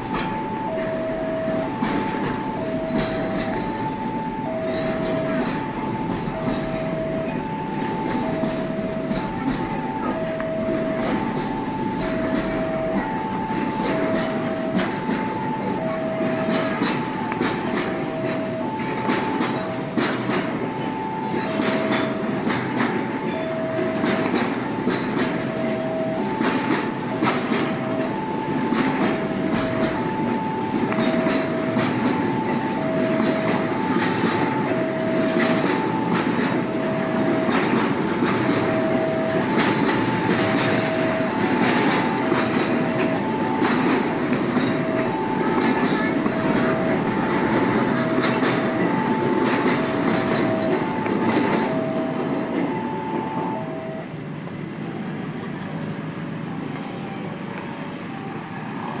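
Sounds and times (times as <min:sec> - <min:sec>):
freight train rumbling past: 0:00.0 - 0:59.0
two-tone crossing alarm: 0:00.0 - 0:59.0.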